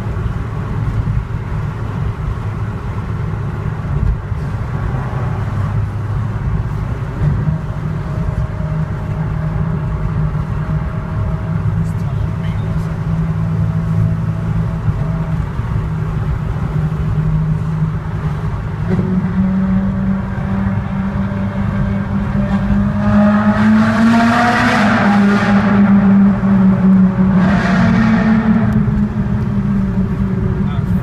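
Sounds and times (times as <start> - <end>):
car engine revving in a tunnel: 0.0 - 31.0
steady engine drone: 0.0 - 31.0.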